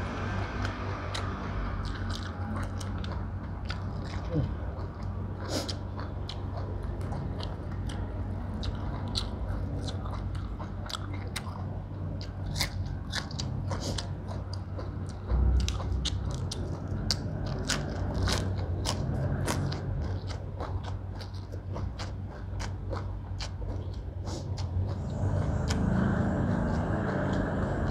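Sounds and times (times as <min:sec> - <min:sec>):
low hum: 0:00.0 - 0:27.9
person chewing crunchy vegetables: 0:00.0 - 0:27.9.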